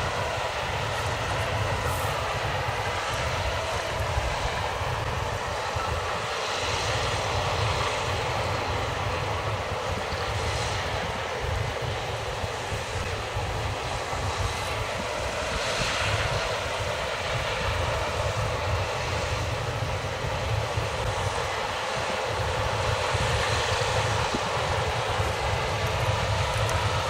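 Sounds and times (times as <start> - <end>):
combine harvester droning: 0.0 - 27.0.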